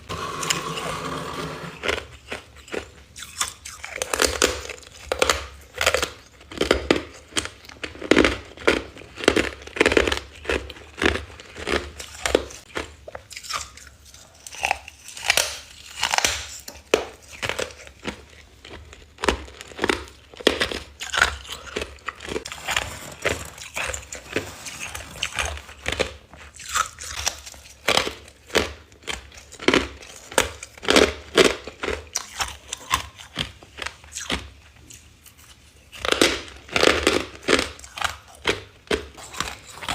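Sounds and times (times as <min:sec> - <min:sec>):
chewing ice crunches: 0:01.8 - 0:22.7, 0:23.5 - 0:39.9.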